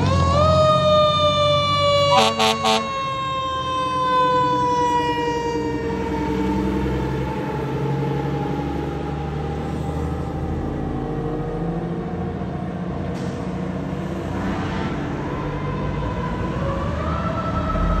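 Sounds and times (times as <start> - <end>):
siren wailing: 0.0 - 12.4, 15.2 - 18.0
road noise: 0.0 - 18.0
truck engine rumble: 0.0 - 18.0.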